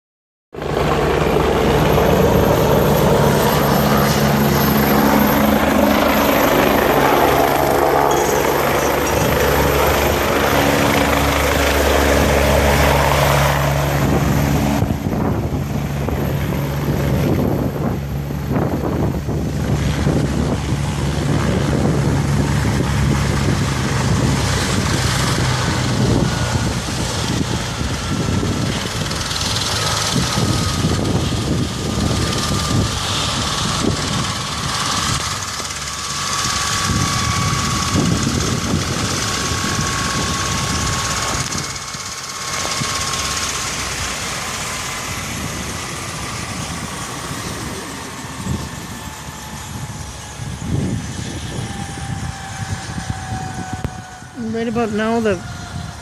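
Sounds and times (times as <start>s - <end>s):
helicopter rotor and turbine drone: 0.5s - 56.0s
high-pitched turbine whine: 0.6s - 56.0s.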